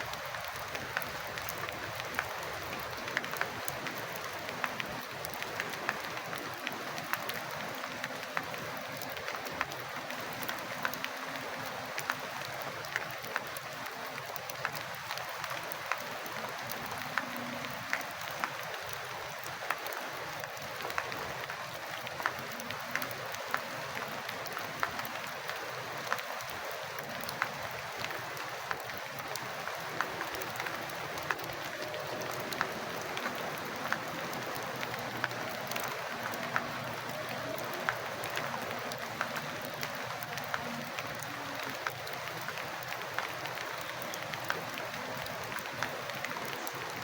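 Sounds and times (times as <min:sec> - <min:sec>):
raindrops tapping: 0:00.0 - 0:47.0
steady rain hiss: 0:00.0 - 0:47.0.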